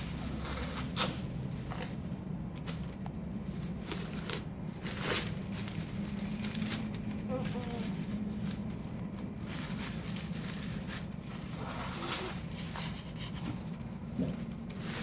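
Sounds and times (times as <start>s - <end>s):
steady low hum: 0.0s - 15.0s
tissues rustling: 0.0s - 15.0s.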